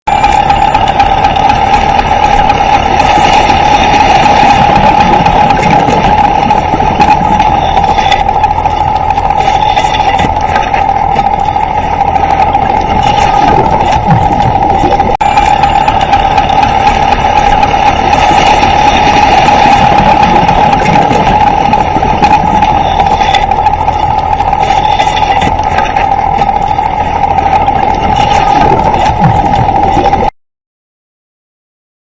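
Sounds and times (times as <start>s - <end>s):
boat engine running: 0.0s - 30.4s.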